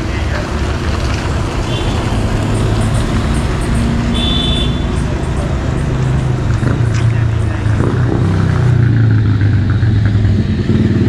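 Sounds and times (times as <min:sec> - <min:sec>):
vehicle engines passing: 0:00.0 - 0:11.0.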